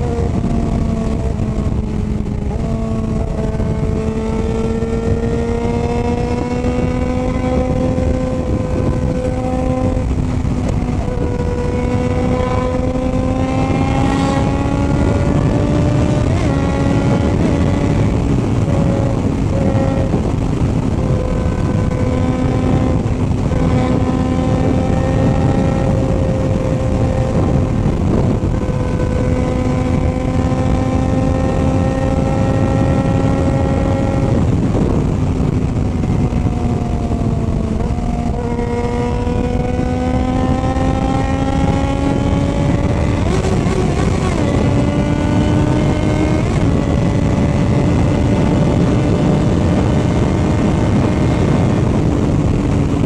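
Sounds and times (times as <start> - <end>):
constant rushing noise: 0.0 - 53.0
motorcycle engine running: 0.0 - 53.0.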